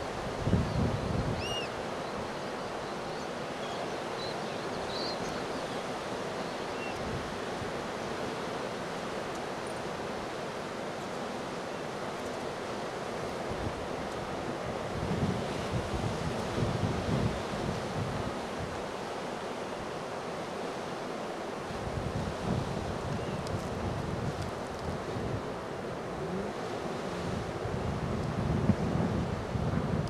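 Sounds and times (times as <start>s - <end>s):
wind: 0.0s - 30.0s.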